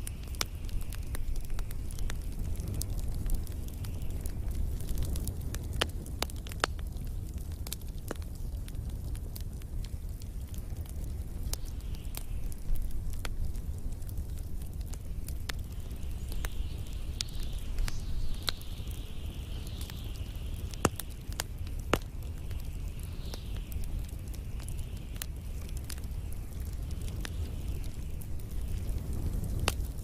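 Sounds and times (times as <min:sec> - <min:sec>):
low fire rumble: 0:00.0 - 0:30.0
soft hiss: 0:00.0 - 0:30.0
wood fire crackling and popping: 0:00.0 - 0:30.0.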